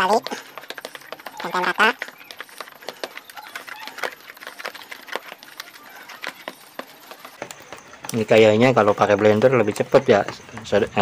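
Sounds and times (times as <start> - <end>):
hand squishing wet batter: 0.0 - 11.0.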